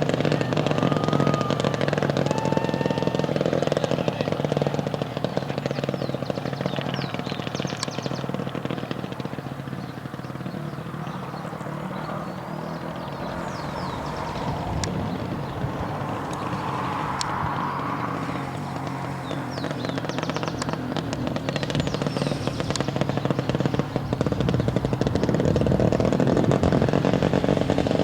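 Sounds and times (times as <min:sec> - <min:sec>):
kart engines buzzing: 0:00.0 - 0:28.0.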